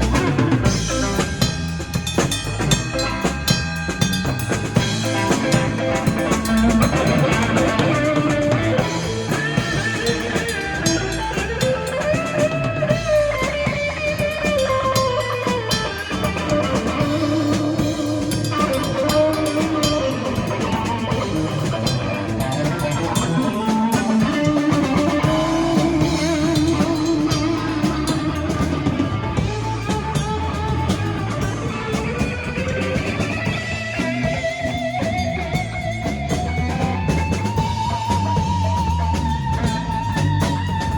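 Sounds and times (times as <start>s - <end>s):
drum kit beat: 0.0s - 40.9s
electric guitar lines: 0.0s - 40.9s.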